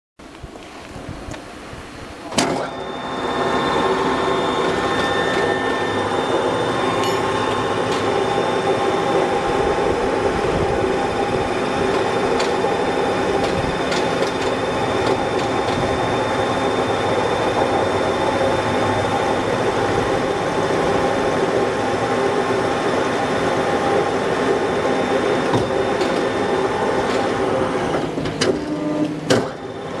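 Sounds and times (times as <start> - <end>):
electric winch motor whirring: 2.3 - 30.0.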